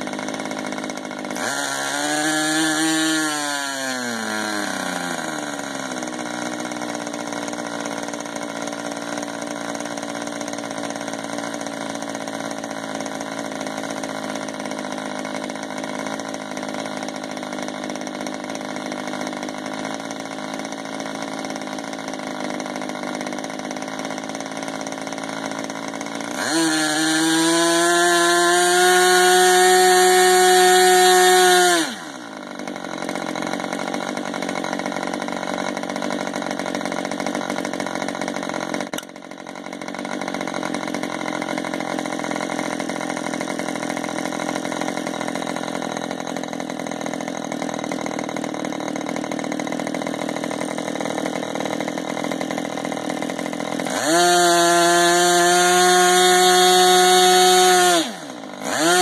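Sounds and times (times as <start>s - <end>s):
model airplane engine running: 0.0s - 59.0s.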